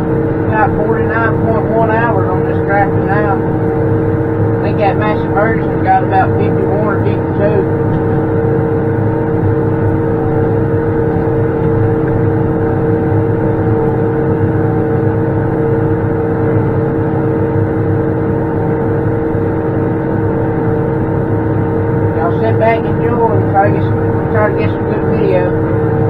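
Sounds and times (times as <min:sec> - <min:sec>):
steady whining tones: 0:00.0 - 0:26.0
tractor diesel engine droning: 0:00.0 - 0:26.0.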